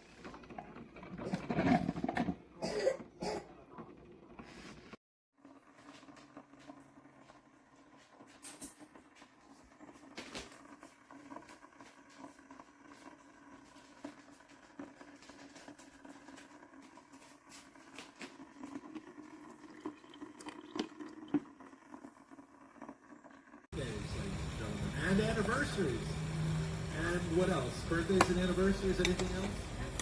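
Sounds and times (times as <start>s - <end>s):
coffee maker crackling and ticking: 0.0s - 2.4s, 5.4s - 30.0s
coffee maker low hum: 0.0s - 30.0s.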